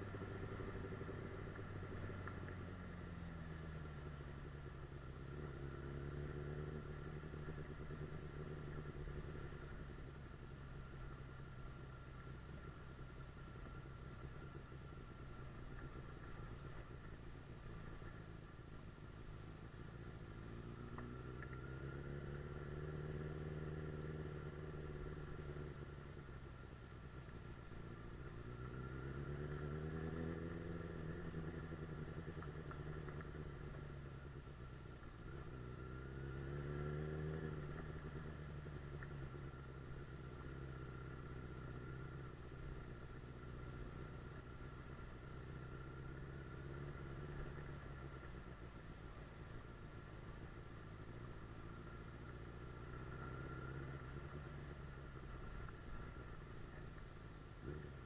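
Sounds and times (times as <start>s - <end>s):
motorcycle engine revving: 0.0s - 18.8s, 19.5s - 58.0s.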